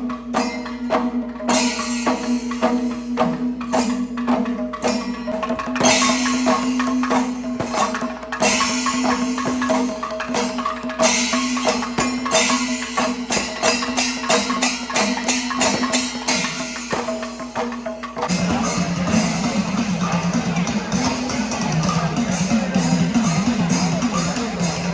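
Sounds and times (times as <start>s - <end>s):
drum strokes: 0.0s - 24.9s
hand cymbals clashing: 0.0s - 24.9s.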